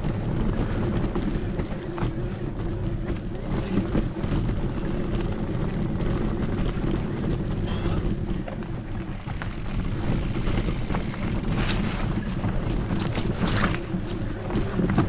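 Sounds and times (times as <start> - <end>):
wheels rolling on dirt trail: 0.0 - 15.0
wind buffeting microphone: 0.0 - 15.0.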